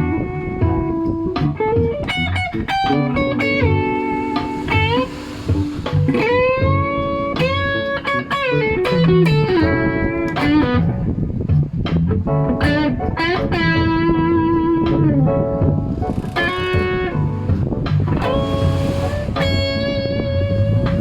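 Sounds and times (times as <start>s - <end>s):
electric guitar lead lines: 0.0s - 21.0s.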